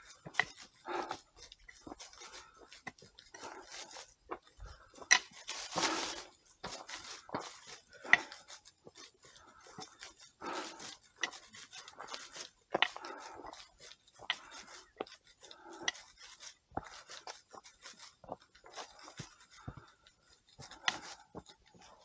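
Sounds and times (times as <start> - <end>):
footsteps on trail: 0.0 - 22.0.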